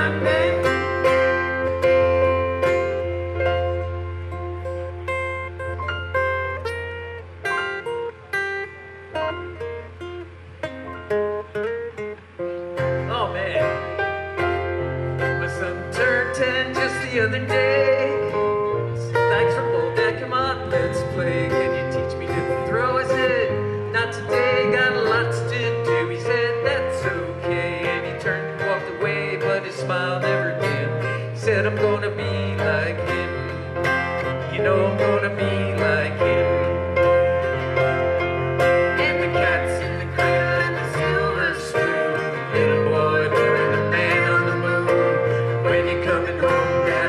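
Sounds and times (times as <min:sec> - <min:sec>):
bass notes: 0:00.0 - 0:47.0
strummed acoustic guitar: 0:00.0 - 0:47.0.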